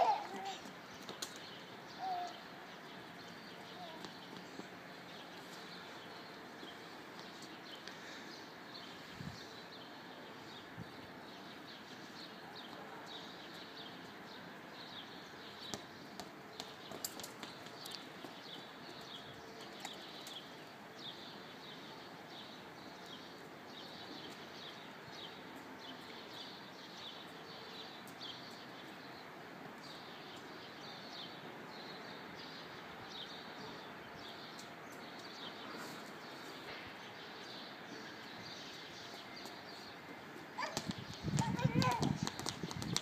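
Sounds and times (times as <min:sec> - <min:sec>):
faint outdoor background: 0:00.0 - 0:43.0
small birds chirping: 0:00.0 - 0:43.0.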